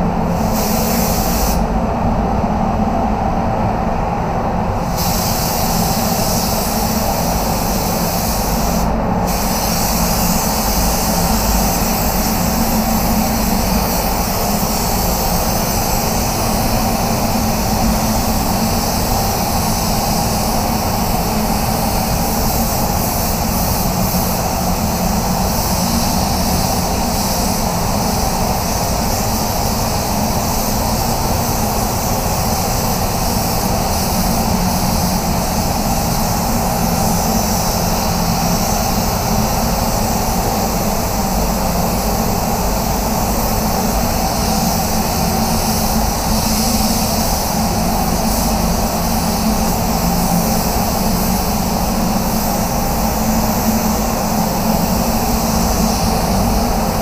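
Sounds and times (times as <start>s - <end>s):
spray booth air flow: 0.0s - 57.0s
spray gun air hiss: 0.0s - 57.0s.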